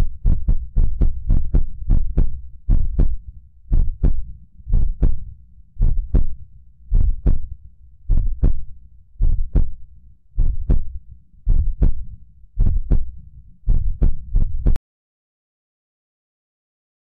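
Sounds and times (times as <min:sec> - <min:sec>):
heartbeat lub-dub: 0:00.0 - 0:09.8, 0:10.4 - 0:14.8
low steady hum: 0:00.0 - 0:14.8.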